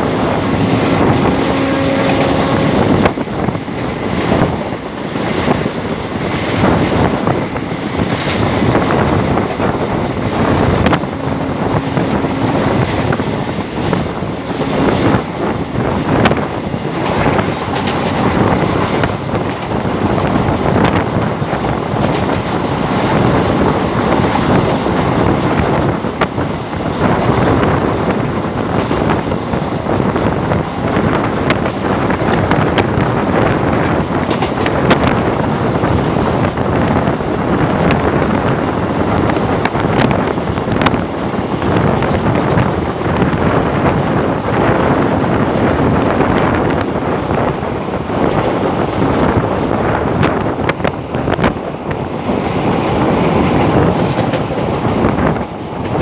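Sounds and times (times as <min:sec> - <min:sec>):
train wheels rumbling on rails: 0:00.0 - 0:56.0
wind buffeting microphone: 0:00.0 - 0:56.0.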